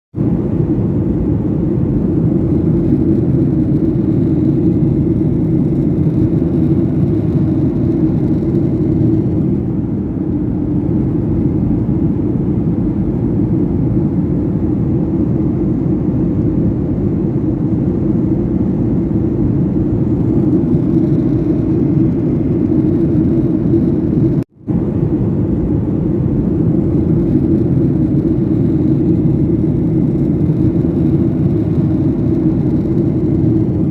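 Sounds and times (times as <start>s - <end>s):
airliner cabin drone: 0.2s - 33.9s.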